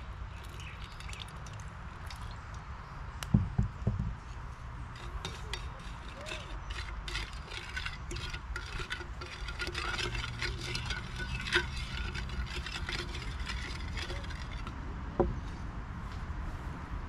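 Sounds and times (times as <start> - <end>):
wooden spoon stirring in metal bowl: 0.4 - 2.3, 3.7 - 15.5.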